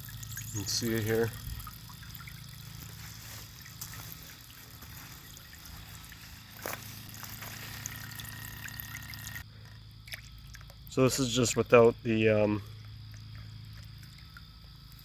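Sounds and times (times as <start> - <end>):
fountain water trickling and dripping: 0.0 - 9.4, 10.0 - 15.0.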